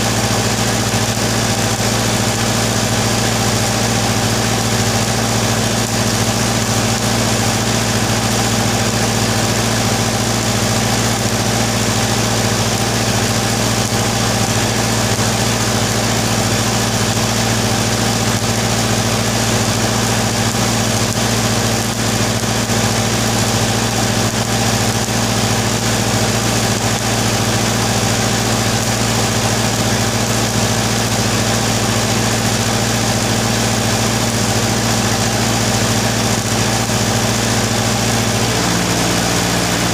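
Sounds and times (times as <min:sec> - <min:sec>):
welding arc crackling hiss: 0:00.0 - 0:39.9
welding machine hum: 0:00.0 - 0:39.9.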